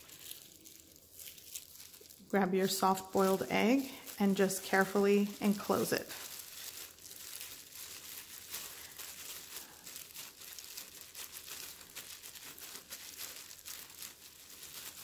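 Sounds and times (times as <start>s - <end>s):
plastic gloves crinkling: 0.0s - 15.0s.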